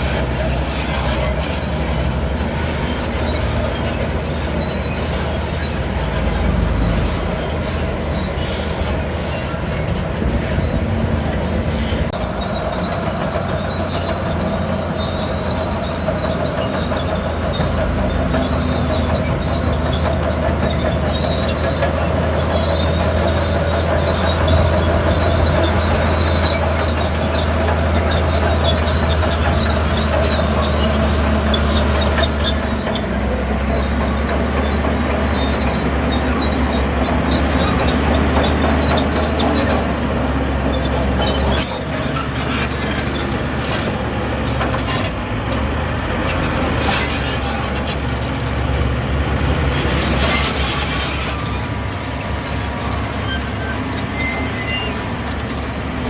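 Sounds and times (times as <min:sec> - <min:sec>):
diesel engine running: 0:00.0 - 0:56.0
steel tracks squealing and clattering: 0:00.0 - 0:56.0.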